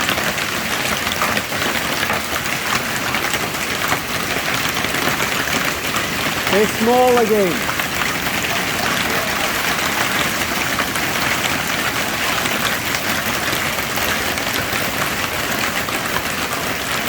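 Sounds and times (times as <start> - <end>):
hailstones ticking on hard surfaces: 0.0 - 17.0.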